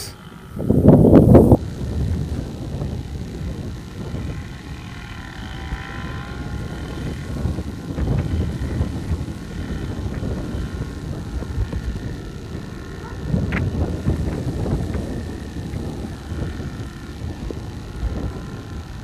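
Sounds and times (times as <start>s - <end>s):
distant machinery engines rumbling: 0.0s - 19.0s
wind on microphone: 0.0s - 19.0s.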